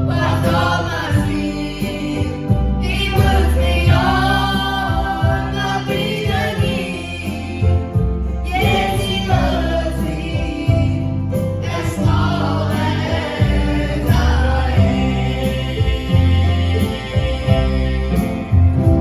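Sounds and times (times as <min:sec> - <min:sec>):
gospel group singing: 0:00.0 - 0:19.0
guitar: 0:00.0 - 0:19.0
piano: 0:00.0 - 0:19.0.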